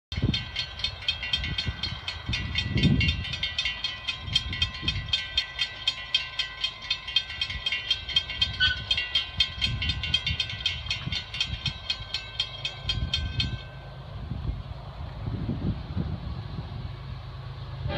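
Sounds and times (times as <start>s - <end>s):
railroad crossing bells ringing: 0.1s - 14.9s.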